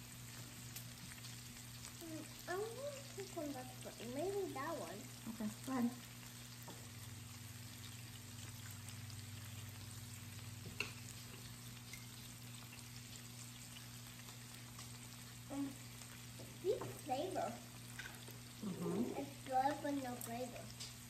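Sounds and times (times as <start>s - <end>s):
meat sizzling on grill: 0.0s - 21.0s.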